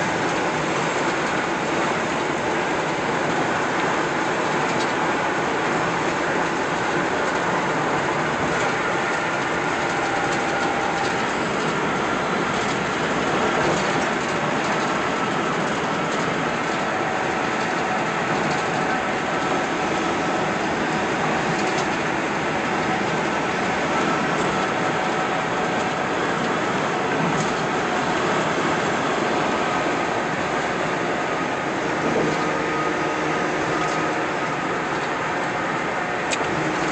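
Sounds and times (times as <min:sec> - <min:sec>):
car road and tyre noise: 0:00.0 - 0:36.9.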